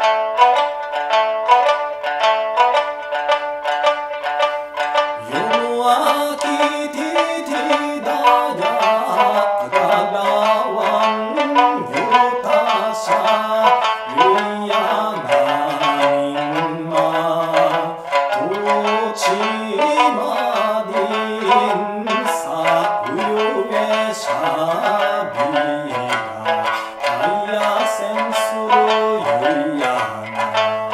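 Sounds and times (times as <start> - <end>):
plucked lute: 0.0 - 30.9
man singing: 5.2 - 30.9.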